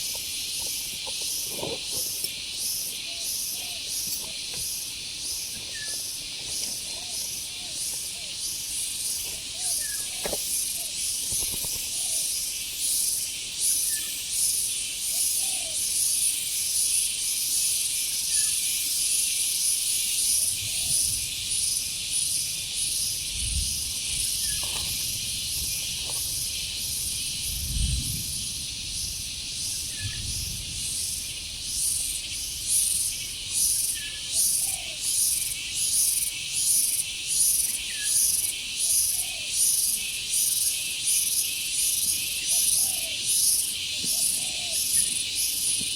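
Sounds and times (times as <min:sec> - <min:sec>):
insects buzzing: 0:00.0 - 0:45.9.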